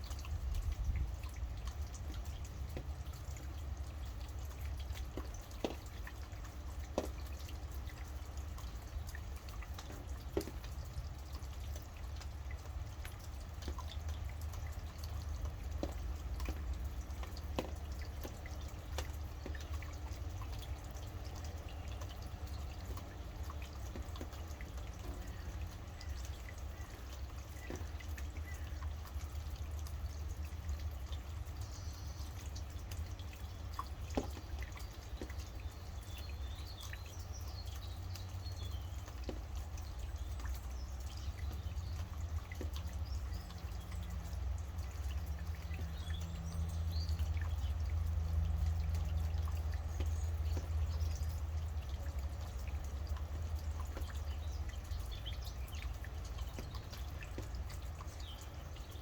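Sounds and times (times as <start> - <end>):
birds chirping faintly: 0.0 - 59.0
drops ticking: 0.0 - 59.0
rain dripping: 0.0 - 59.0.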